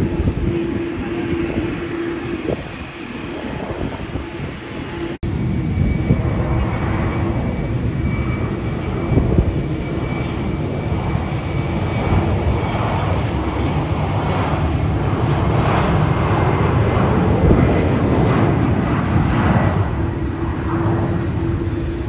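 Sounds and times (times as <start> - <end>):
faint high jet whine: 0.0 - 22.0
jet engines roaring: 0.0 - 22.0.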